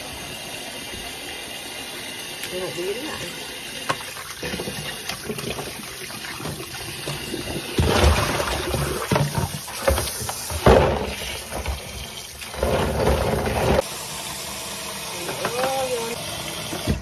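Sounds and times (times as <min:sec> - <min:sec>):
water splashing and sloshing: 0:00.0 - 0:13.9
tap running into basin: 0:00.8 - 0:13.8, 0:15.2 - 0:17.0.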